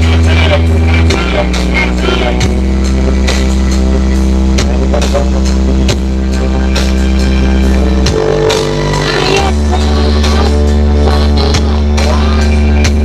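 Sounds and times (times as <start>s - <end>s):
electronic dance music: 0.0s - 13.0s.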